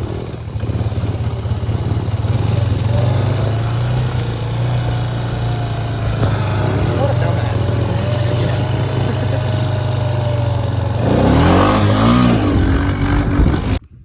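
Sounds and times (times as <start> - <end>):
small vehicle engine humming: 0.0 - 13.9.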